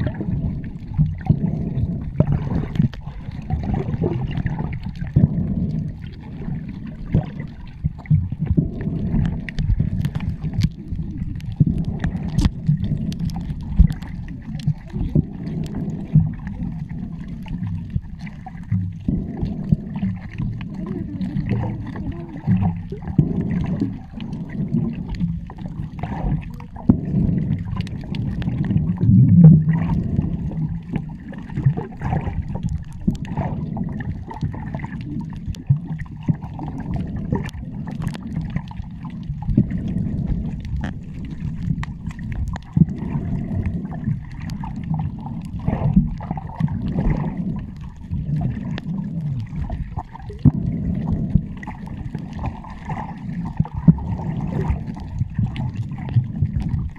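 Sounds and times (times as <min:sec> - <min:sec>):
gurgling bubbles: 0:00.0 - 0:56.9
muffled underwater water rumble: 0:00.0 - 0:56.9.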